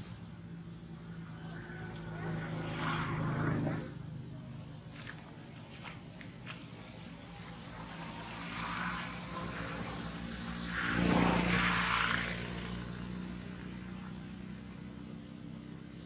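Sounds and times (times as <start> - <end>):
motor engine passing by: 0.0 - 16.0.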